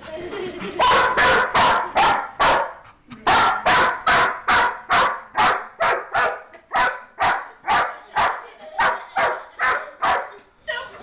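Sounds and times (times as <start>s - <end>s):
dog barking: 0.8s - 10.4s.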